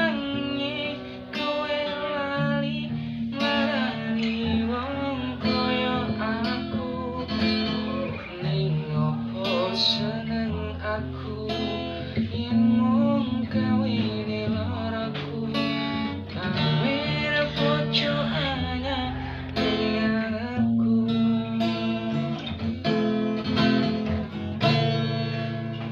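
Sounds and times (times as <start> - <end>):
strummed acoustic guitar: 0.0 - 25.9.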